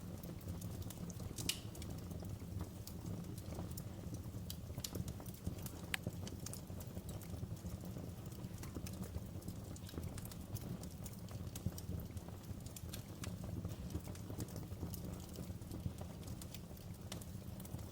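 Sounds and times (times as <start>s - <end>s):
wood fire burning: 0.0s - 17.9s.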